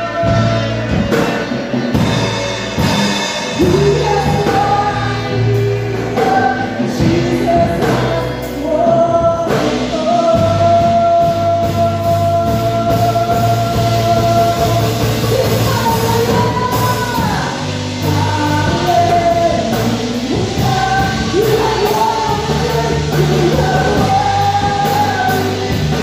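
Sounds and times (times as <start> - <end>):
woman singing: 0.0 - 2.3, 3.5 - 26.0
bass guitar: 0.0 - 26.0
drum kit: 0.0 - 26.0
guitars: 0.0 - 26.0.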